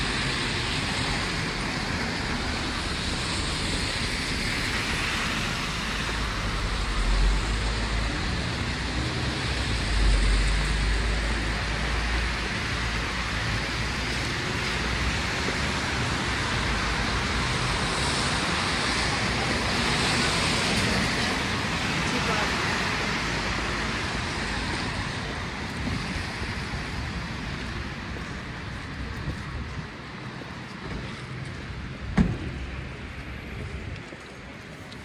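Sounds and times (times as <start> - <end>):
deep traffic rumble: 0.0 - 35.0
tyres hissing on wet asphalt: 0.0 - 35.0.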